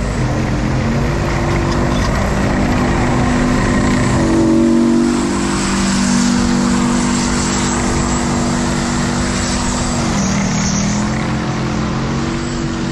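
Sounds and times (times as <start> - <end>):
tank diesel engine driving past: 0.0 - 12.9.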